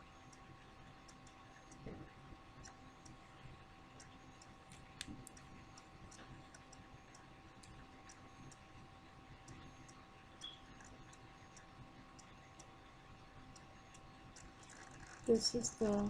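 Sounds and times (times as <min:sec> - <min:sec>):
faint steady tone: 0:00.0 - 0:16.0
faint ticking clicks: 0:00.0 - 0:16.0.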